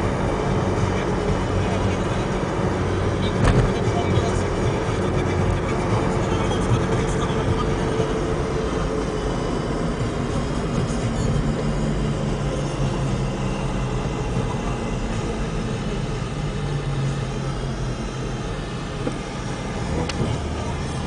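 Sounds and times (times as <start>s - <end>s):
car engine and tyre drone: 0.0s - 21.0s.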